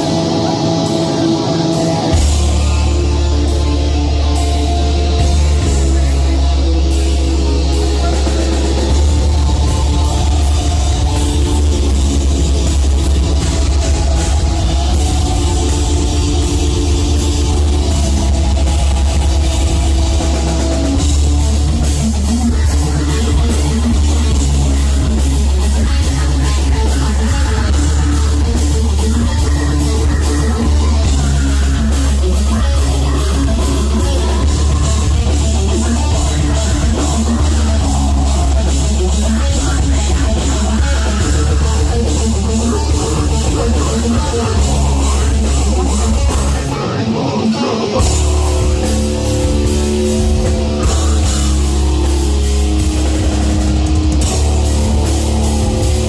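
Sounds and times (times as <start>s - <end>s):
distorted electric guitars: 0.0s - 56.0s
drum kit: 0.0s - 56.0s
heavy bass: 0.0s - 56.0s.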